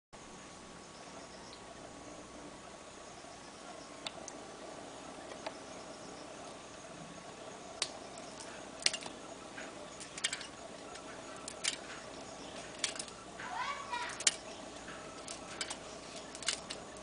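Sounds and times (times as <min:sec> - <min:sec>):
faint steady hum: 0:00.2 - 0:17.0.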